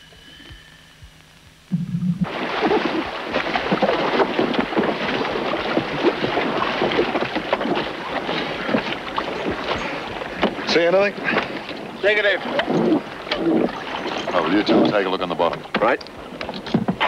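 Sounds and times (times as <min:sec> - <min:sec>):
water splashing around boat: 0:02.2 - 0:17.0.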